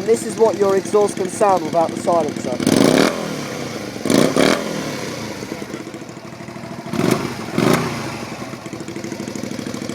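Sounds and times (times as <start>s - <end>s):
motorcycle engine revving and idling: 0.0s - 9.9s.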